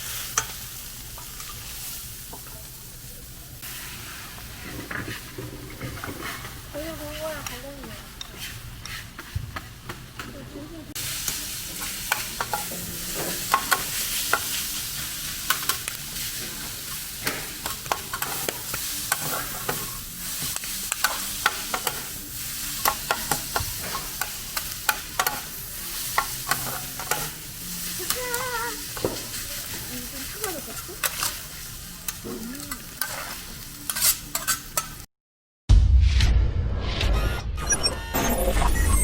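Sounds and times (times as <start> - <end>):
pork belly sizzling on griddle: 0.0 - 10.3, 10.9 - 35.1.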